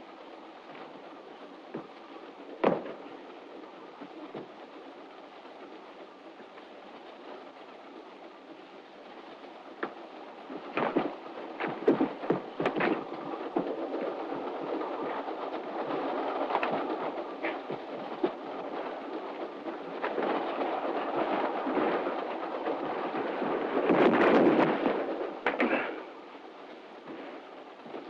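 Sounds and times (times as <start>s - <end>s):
train running rumble: 0.0s - 28.0s.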